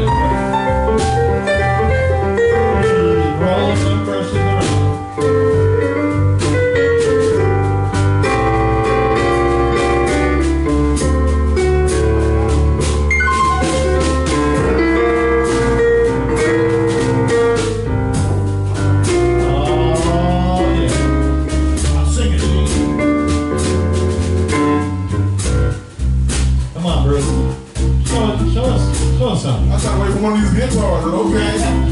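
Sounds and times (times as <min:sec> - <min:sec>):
drum kit with cymbals: 0:00.0 - 0:31.9
electric bass: 0:00.0 - 0:31.9
keyboard: 0:00.0 - 0:31.9.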